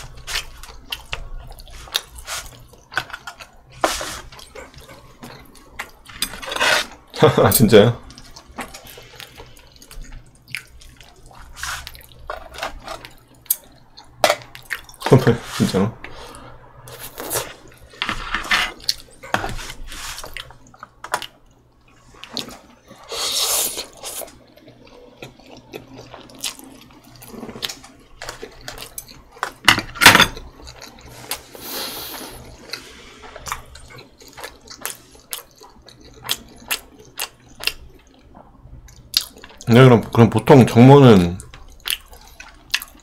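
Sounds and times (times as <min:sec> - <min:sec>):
wet chewing and mouth sounds: 0:00.0 - 0:07.1, 0:08.0 - 0:15.2, 0:18.7 - 0:29.7, 0:30.3 - 0:39.8, 0:41.4 - 0:43.0.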